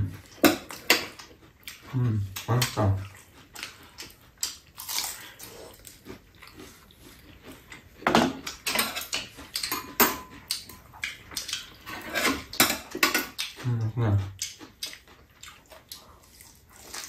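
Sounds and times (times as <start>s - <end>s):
chewing and mouth sounds: 0.1s - 17.0s.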